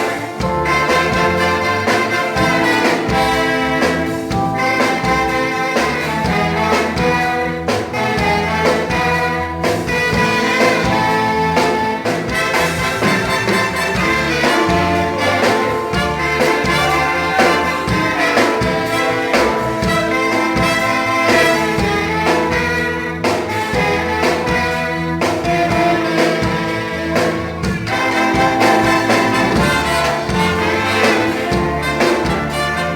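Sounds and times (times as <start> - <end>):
drums keeping steady beat: 0.0 - 32.9
orchestra with prominent brass: 0.0 - 32.9.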